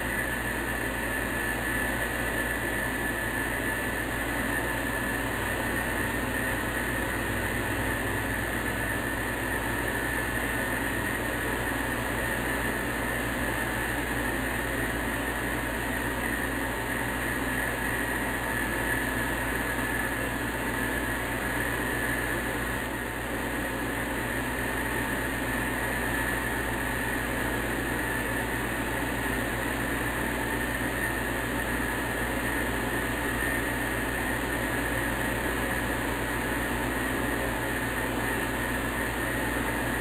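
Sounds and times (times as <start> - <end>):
steady hiss-like noise: 0.0 - 40.0.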